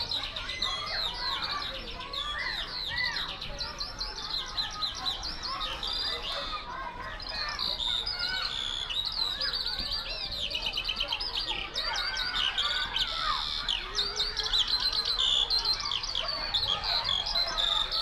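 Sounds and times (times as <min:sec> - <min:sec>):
songbirds chirping and twittering: 0:00.0 - 0:18.0.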